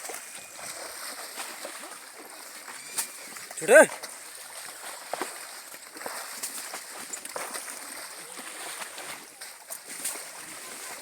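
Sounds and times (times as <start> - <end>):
faint water sloshing: 0.0 - 11.0
light splashes and knocks: 0.0 - 11.0.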